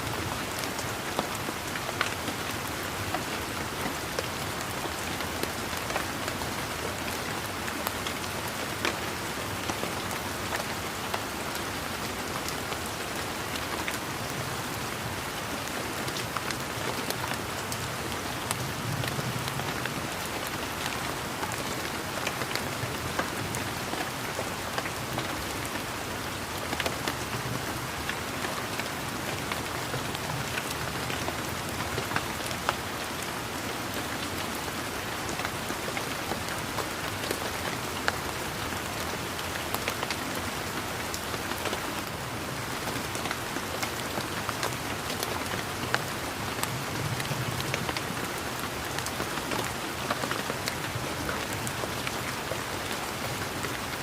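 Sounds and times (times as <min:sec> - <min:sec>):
raindrops ticking on surfaces: 0:00.0 - 0:54.0
steady rain hiss: 0:00.0 - 0:54.0.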